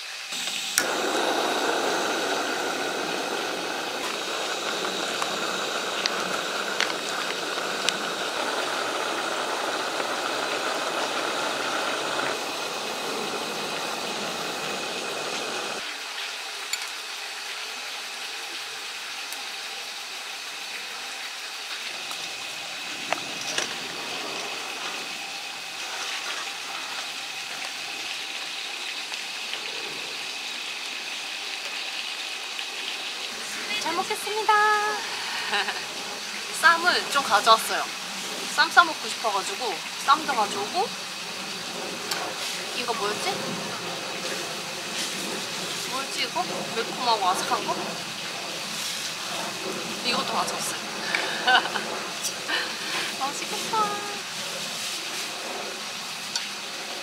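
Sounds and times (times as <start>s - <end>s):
gas stove burner hissing: 0.0s - 57.0s.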